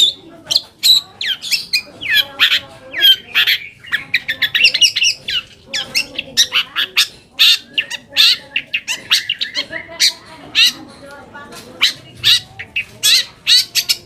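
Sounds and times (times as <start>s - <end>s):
bird harsh chattering and whistles: 0.0s - 14.0s.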